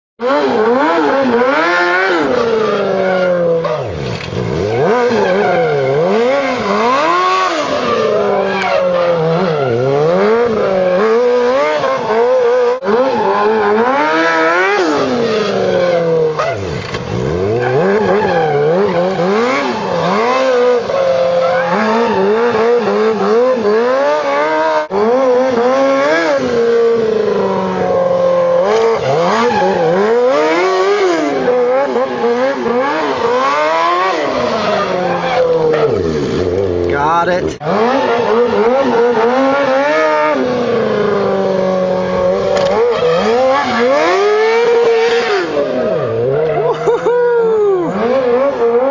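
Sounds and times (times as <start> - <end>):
motorcycle engine revving: 0.2 - 48.9.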